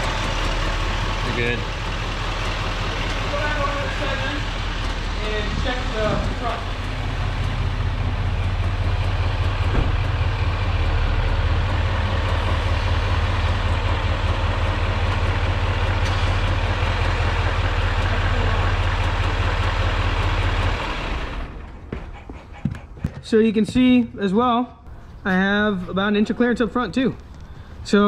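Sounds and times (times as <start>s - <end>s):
diesel engine idling: 0.0s - 24.0s, 24.8s - 28.0s.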